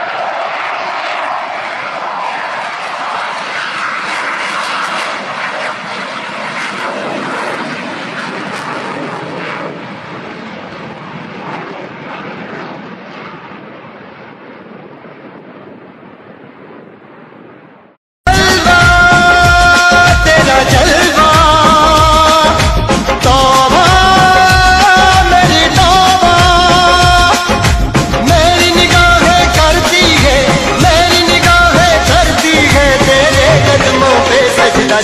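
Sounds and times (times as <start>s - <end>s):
aircraft engine noise: 0.0s - 35.0s.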